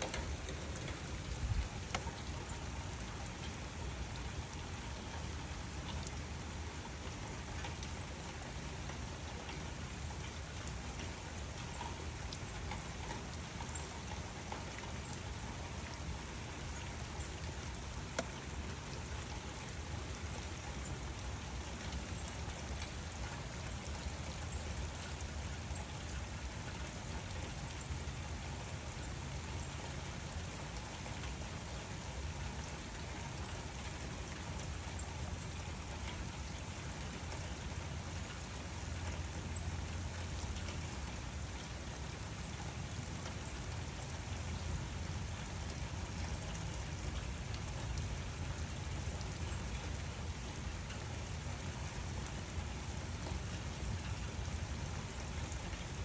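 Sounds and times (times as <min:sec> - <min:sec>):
single raindrops ticking: 0:00.0 - 0:56.0
steady rain: 0:00.0 - 0:56.0.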